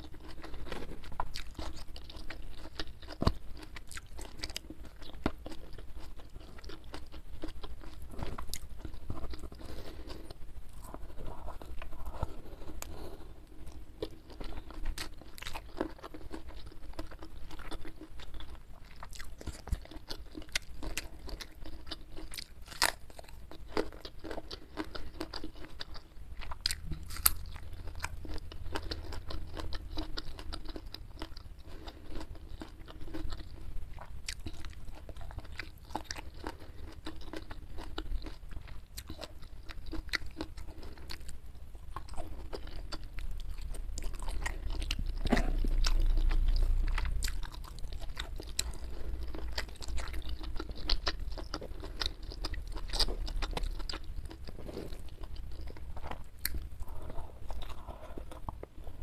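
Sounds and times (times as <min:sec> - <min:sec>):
chewing with crisp crunches: 0:00.0 - 0:59.0.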